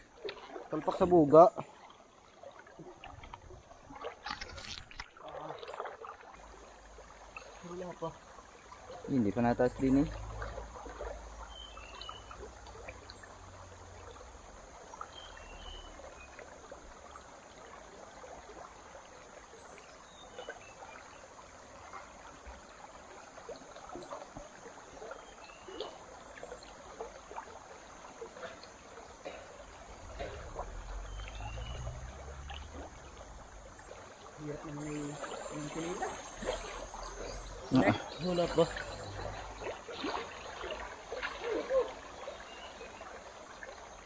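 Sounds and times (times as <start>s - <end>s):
faint trickling water: 0.0s - 44.0s.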